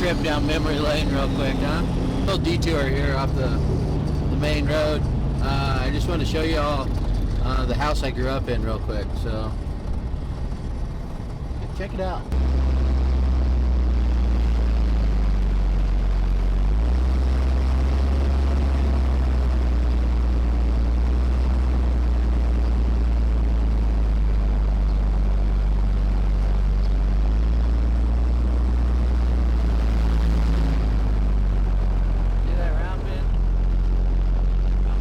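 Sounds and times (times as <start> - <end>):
truck diesel engine driving: 0.0 - 35.0.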